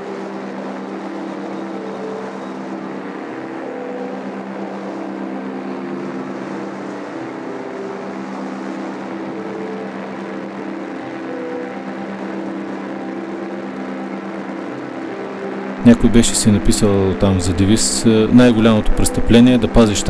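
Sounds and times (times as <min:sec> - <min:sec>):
ultralight aircraft engine humming: 0:00.0 - 0:19.4.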